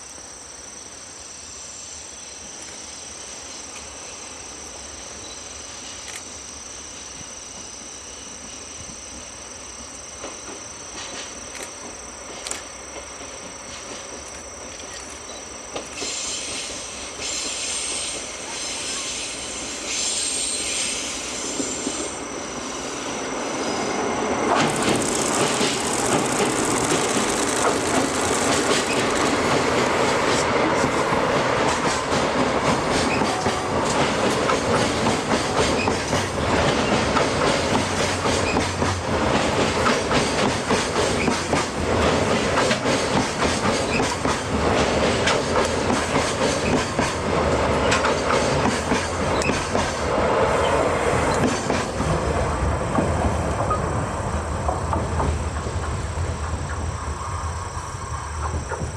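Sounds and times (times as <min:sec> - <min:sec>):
train rumbling: 0:02.4 - 0:58.9.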